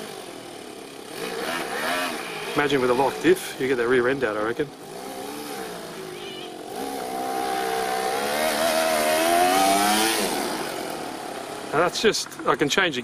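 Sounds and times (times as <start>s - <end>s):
nitro engine revving: 0.0s - 12.8s.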